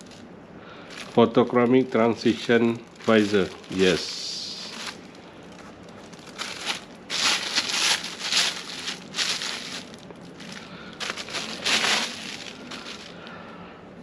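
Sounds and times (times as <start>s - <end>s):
packaging crinkling: 0.8s - 13.4s.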